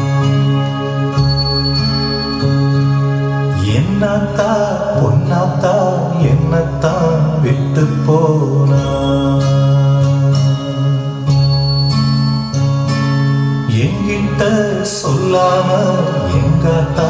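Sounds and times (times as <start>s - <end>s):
low drone: 0.0s - 17.0s
wavering melody: 0.0s - 17.0s.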